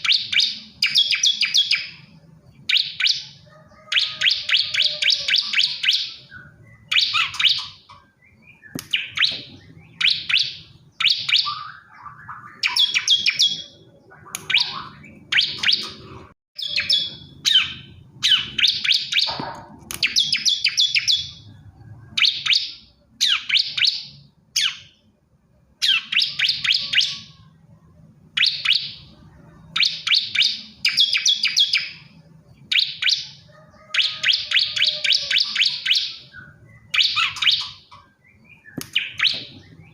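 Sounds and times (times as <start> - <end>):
bird chirping rapidly: 0.0 - 25.1, 25.8 - 27.5, 28.4 - 39.9.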